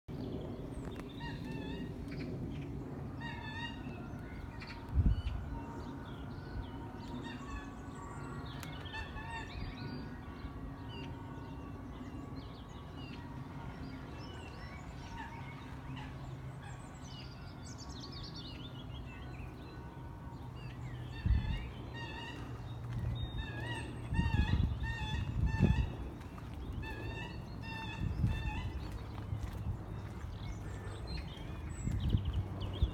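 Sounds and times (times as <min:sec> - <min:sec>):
birds calling: 0:00.2 - 0:32.9.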